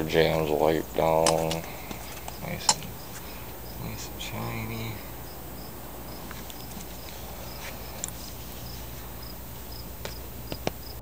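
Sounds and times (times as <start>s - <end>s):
cricket chirping: 0.0s - 11.0s
steady low hum: 0.0s - 11.0s.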